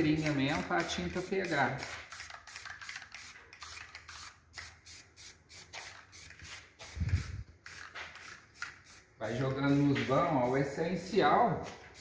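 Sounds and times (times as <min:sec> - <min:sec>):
aerosol spray can hissing: 0:00.0 - 0:10.7.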